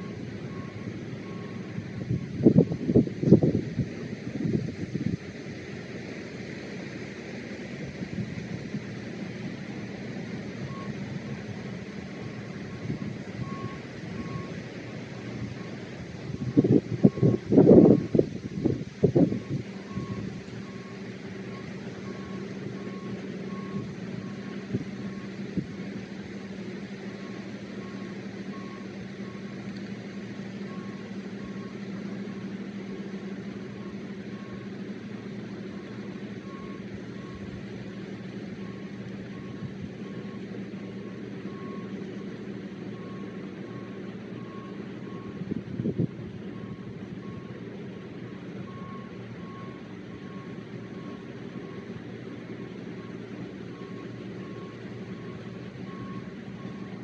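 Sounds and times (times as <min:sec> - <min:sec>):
combine diesel engine droning: 0:00.0 - 0:57.0.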